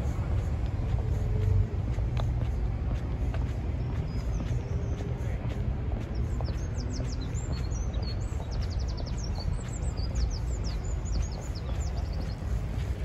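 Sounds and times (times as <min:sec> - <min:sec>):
low background rumble: 0:00.0 - 0:13.0
small birds chirping: 0:02.2 - 0:13.0.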